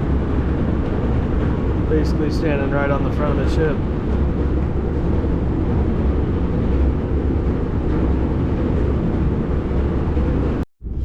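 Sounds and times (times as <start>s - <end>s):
ship engine rumble: 0.0s - 11.0s
wind on microphone: 0.0s - 11.0s.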